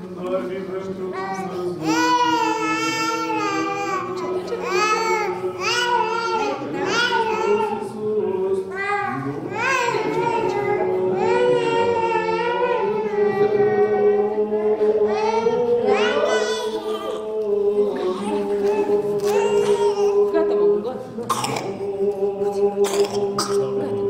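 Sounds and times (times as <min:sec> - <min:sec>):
unaccompanied choral chant: 0:00.8 - 0:24.0.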